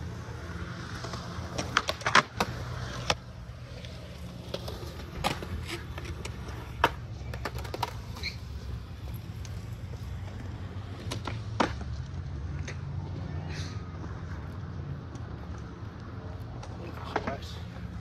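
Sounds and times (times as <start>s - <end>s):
skateboard wheels rolling: 0.0s - 18.0s
skateboards clacking on concrete: 0.1s - 18.0s.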